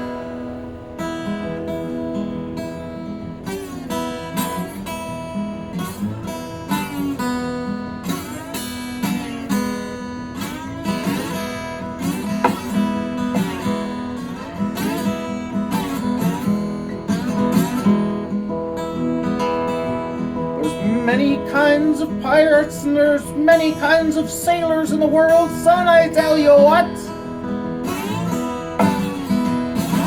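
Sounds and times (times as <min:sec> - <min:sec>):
acoustic guitar strummed: 0:00.0 - 0:30.0.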